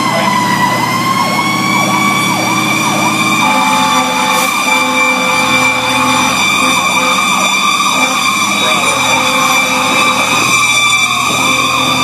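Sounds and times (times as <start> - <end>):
steady high siren tone: 0.0 - 12.0
truck engine: 0.0 - 12.0
warbling siren: 0.0 - 12.0.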